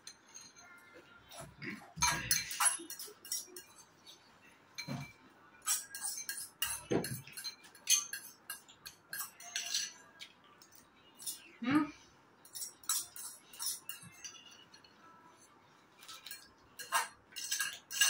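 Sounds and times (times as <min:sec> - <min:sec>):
cutlery clinking against bowls: 0:00.0 - 0:11.5, 0:12.4 - 0:18.0.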